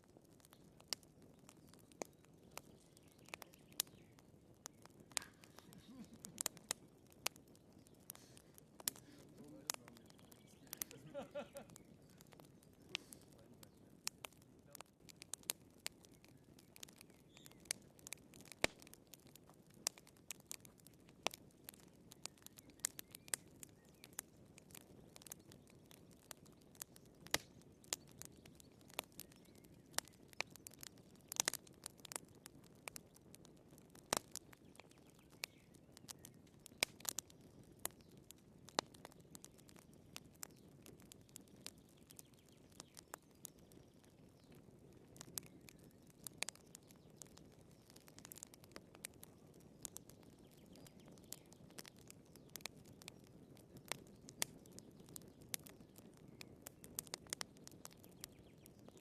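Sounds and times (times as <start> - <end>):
low rush of flames: 0.0 - 59.0
wood fire crackling and popping: 0.0 - 59.0.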